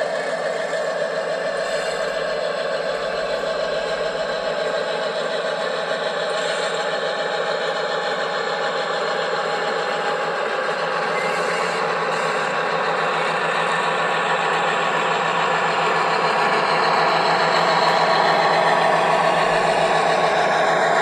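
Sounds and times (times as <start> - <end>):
model locomotive humming: 0.0 - 21.0.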